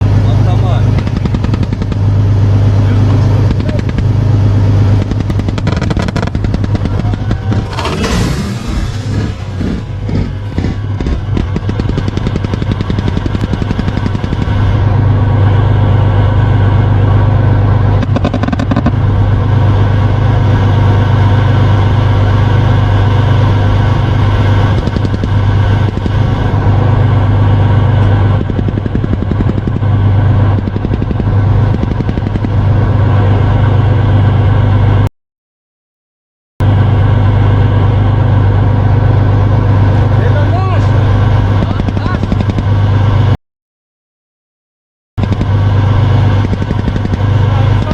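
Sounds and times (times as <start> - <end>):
heavy vehicle engine running: 0.0 - 35.1, 36.6 - 43.4, 45.2 - 47.9.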